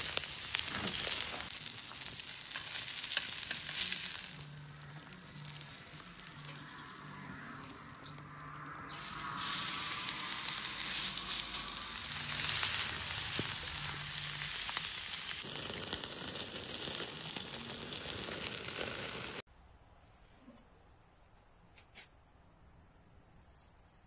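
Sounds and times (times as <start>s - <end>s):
steak sizzling with crackling pops: 0.0s - 19.5s.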